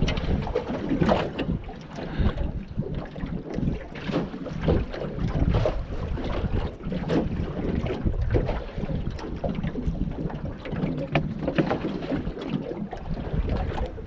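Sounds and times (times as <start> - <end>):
water lapping against boat: 0.0 - 14.0
wind buffeting microphone: 0.0 - 14.0.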